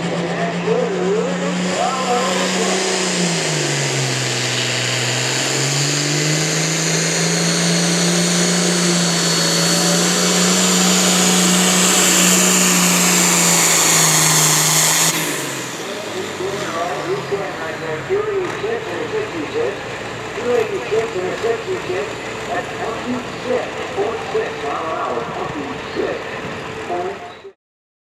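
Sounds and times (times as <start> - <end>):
tractor diesel engine at full throttle: 0.0 - 27.6.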